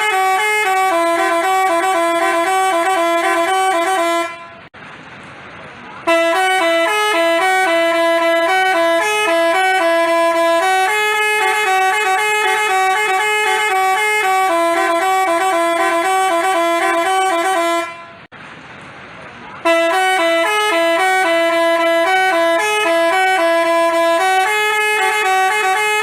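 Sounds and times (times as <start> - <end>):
multi-tone bus horn melody: 0.0 - 4.7, 6.0 - 18.3, 19.6 - 26.0.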